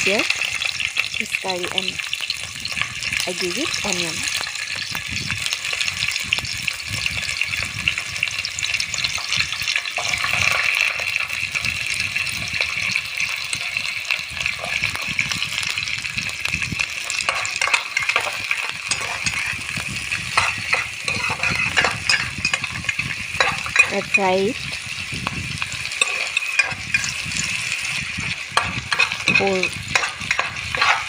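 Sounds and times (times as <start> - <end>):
onions sizzling in oil: 0.0 - 31.0
utensil scraping frying pan: 5.5 - 31.0.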